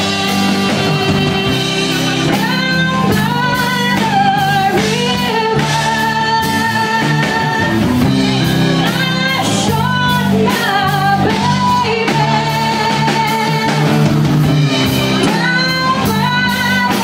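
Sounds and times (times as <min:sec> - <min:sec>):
backing band with electric guitar: 0:00.0 - 0:17.0.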